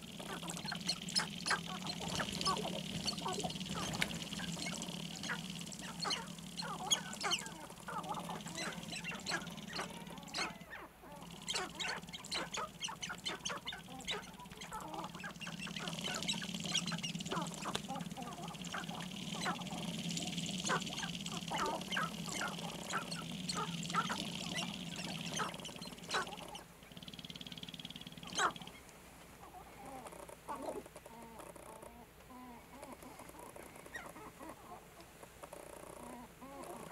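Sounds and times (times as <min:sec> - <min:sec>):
grouse clucking and cackling: 0:00.0 - 0:36.9
steady low hum: 0:00.0 - 0:36.9.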